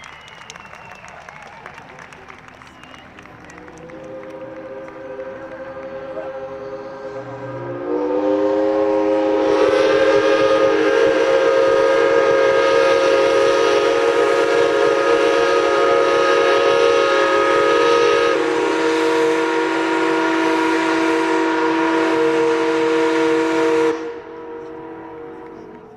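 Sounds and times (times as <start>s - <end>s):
steam whistles sounding a chord: 2.7s - 25.9s.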